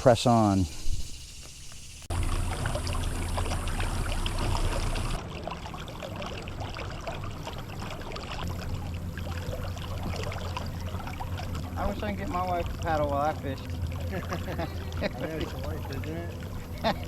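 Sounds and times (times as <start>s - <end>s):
steady low hum: 0.0s - 17.0s
water splashing along hull: 1.6s - 17.0s.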